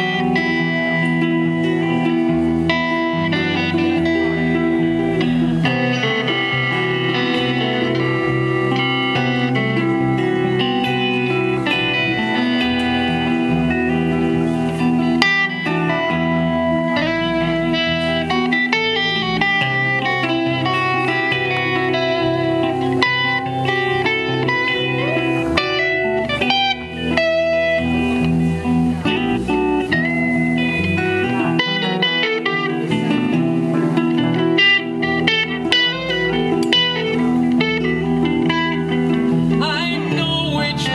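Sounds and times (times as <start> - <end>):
electric lead guitar: 0.0 - 40.9
live rock band instrumental: 0.0 - 40.9.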